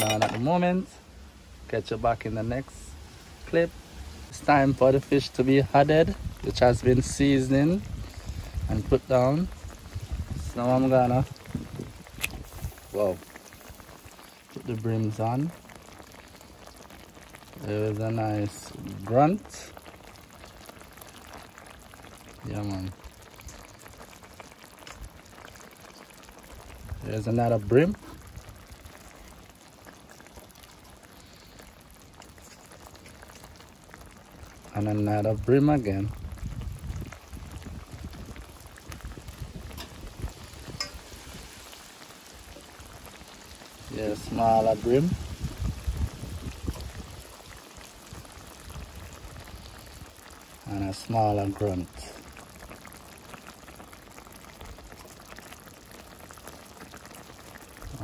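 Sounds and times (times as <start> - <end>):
sauce bubbling in a pan: 0.7 - 58.0.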